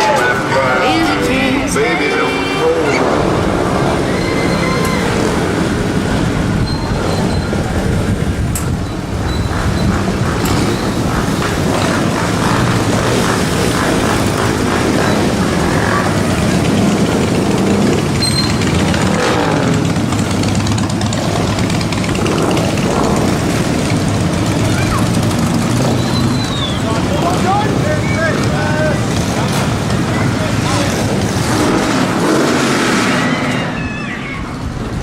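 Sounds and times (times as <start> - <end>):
trucks passing slowly: 0.0 - 35.0.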